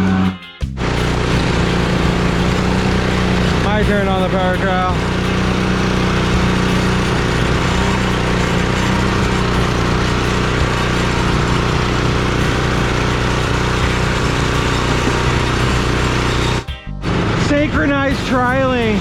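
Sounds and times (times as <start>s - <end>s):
power trowel engine running: 0.8s - 19.0s.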